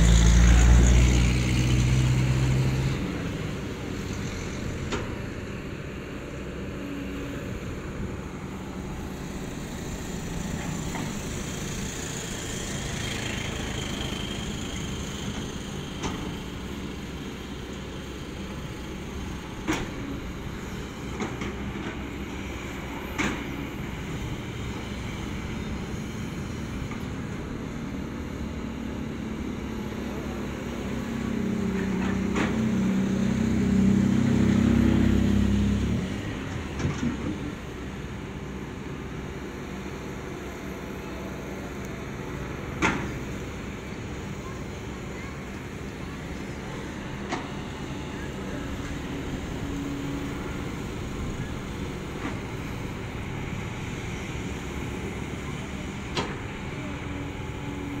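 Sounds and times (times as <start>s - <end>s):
excavator diesel engine: 0.0s - 58.0s.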